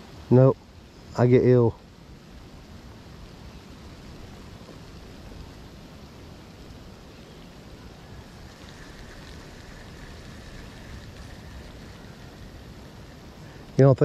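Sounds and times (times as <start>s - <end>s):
wind noise on microphone: 2.6s - 14.0s.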